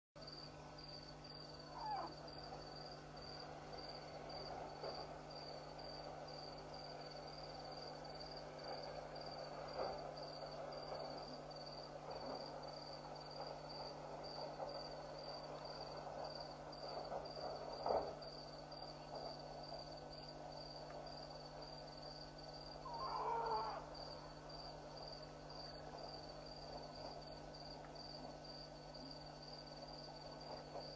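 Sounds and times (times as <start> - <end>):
cricket chirping: 0.2 - 30.9.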